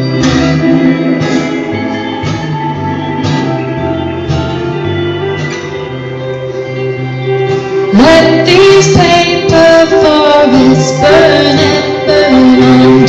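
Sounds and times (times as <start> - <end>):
held low notes: 0.0 - 13.0
strummed guitar chords: 0.0 - 13.0.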